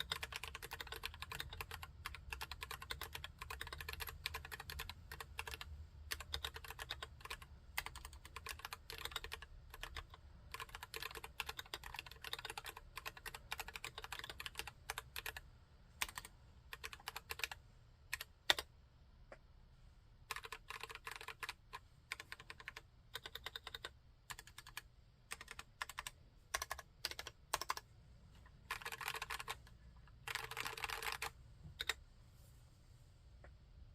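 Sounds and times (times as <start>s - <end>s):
mechanical keyboard typing: 0.0s - 18.7s, 20.3s - 27.9s, 28.7s - 32.0s.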